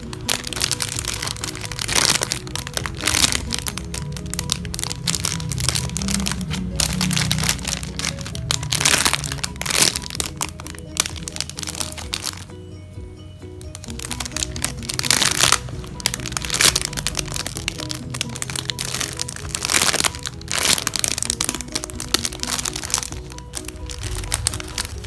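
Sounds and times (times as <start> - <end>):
squishy toys crinkling and crackling: 0.0 - 12.5, 13.7 - 25.0
light repeating background music: 0.0 - 25.0.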